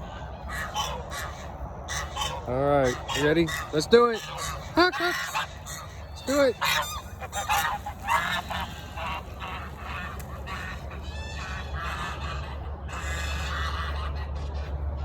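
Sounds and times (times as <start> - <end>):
geese honking: 0.0 - 15.0
low engine hum: 0.0 - 15.0.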